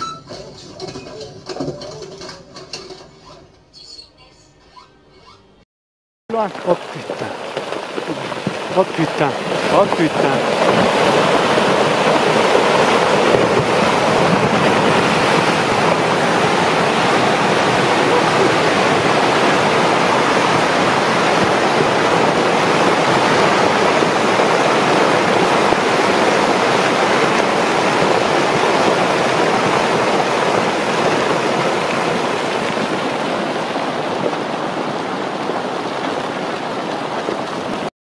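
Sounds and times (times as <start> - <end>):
avalanche rushing: 6.3 - 37.9.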